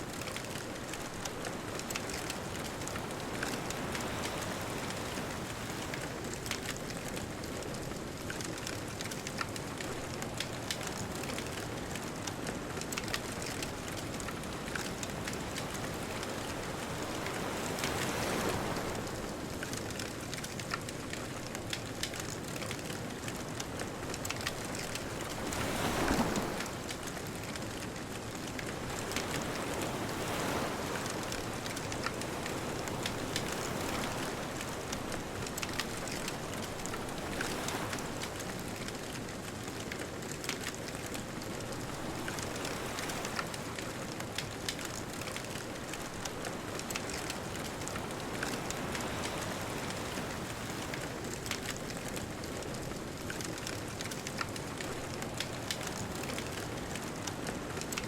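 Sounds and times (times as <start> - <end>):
bonfire crackling and popping: 0.0 - 58.0
distant ocean waves: 0.0 - 58.0.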